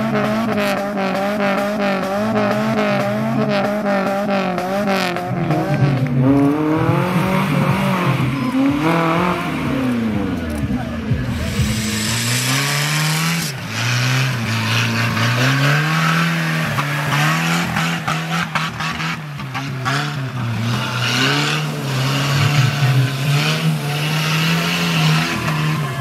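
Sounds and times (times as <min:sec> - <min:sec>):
off-road engine revving: 0:00.0 - 0:26.0.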